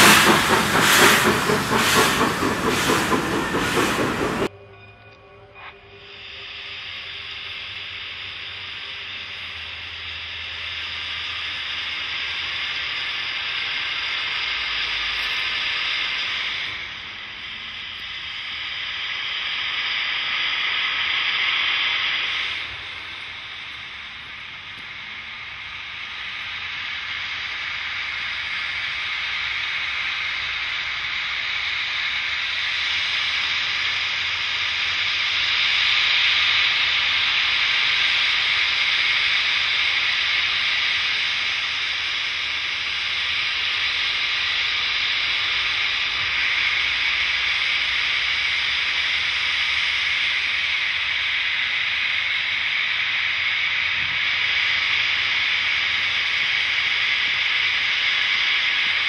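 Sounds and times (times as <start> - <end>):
steam locomotive venting steam: 0.0 - 4.5, 6.1 - 59.0.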